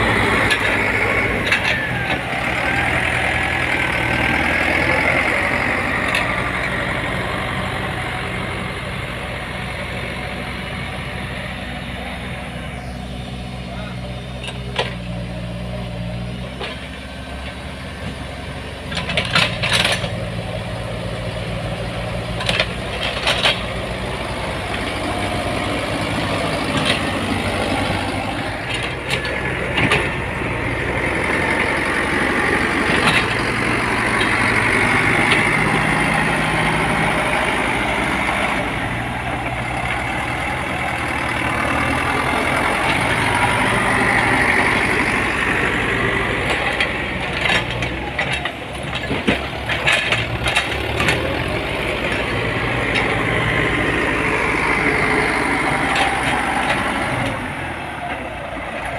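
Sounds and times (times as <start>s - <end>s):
heavy diesel machine running: 0.0s - 58.9s.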